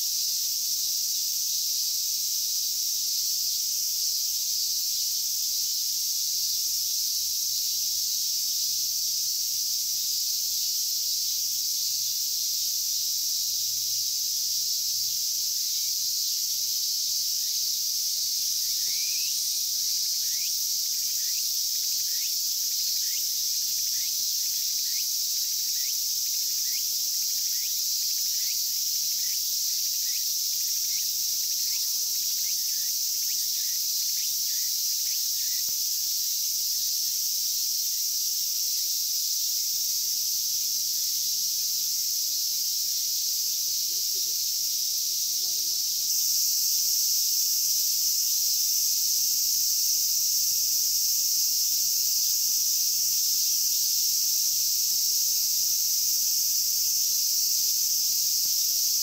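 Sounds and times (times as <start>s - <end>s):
cicadas buzzing chorus: 0.0s - 59.0s.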